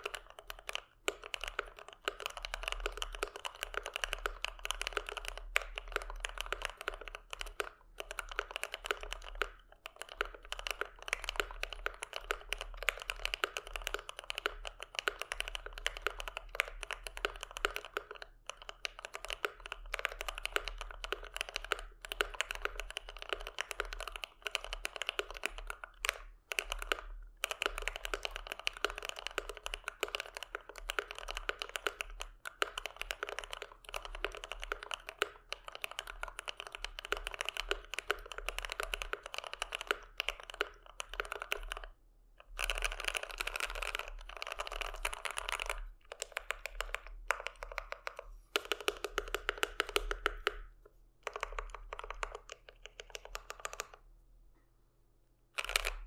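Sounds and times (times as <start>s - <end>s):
mechanical keyboard typing: 0.0s - 54.0s, 55.6s - 56.0s.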